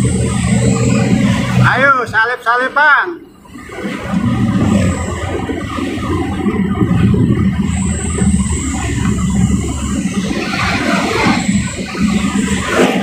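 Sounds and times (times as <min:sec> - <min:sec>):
car engine and road noise: 0:00.0 - 0:13.0
faint high whine: 0:00.0 - 0:13.0.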